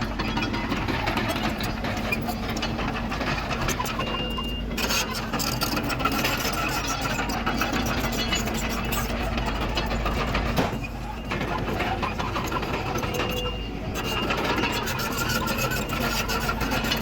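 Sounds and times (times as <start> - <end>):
bulldozer diesel engine running: 0.0 - 17.0
clatter of short knocks: 0.1 - 17.0.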